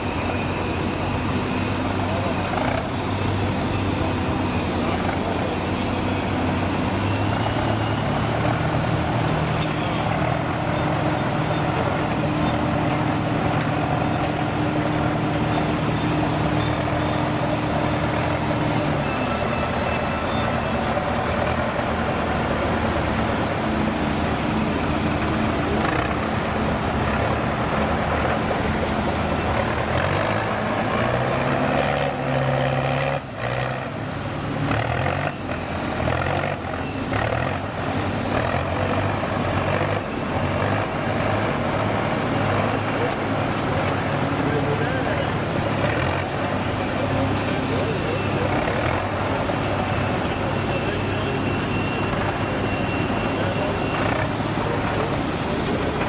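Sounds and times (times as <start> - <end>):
heavy truck engine running: 0.0 - 56.0.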